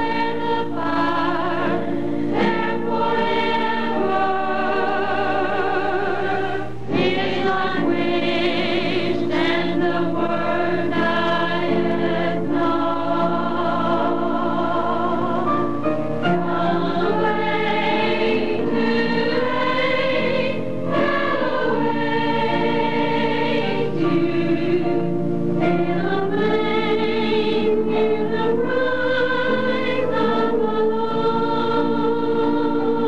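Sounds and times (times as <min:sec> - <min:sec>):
choir singing held notes: 0:00.0 - 0:33.0.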